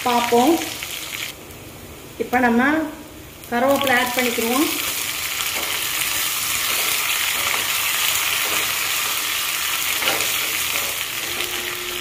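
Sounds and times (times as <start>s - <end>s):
spices sizzling in hot oil: 0.0s - 1.4s, 3.4s - 12.0s.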